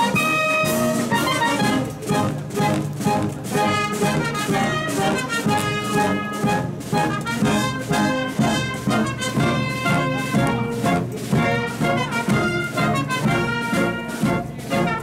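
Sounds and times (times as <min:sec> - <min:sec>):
marching wind band playing: 0:00.0 - 0:15.0.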